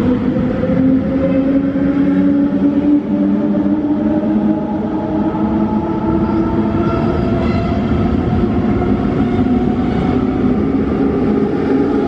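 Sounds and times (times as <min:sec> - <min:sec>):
train hum: 0:00.0 - 0:12.0
train wheels rumbling on rails: 0:00.0 - 0:12.0.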